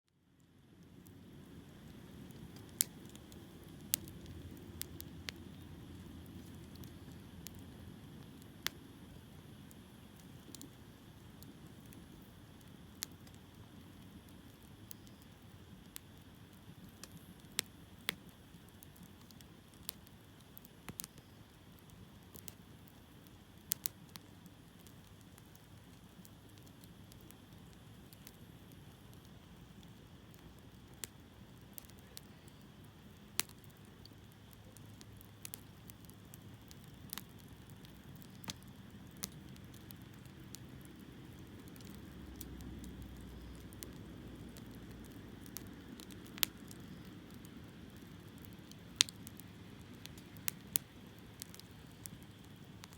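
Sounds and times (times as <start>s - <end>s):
campfire crackling and popping: 0.2s - 52.9s
fire hissing: 0.5s - 52.9s.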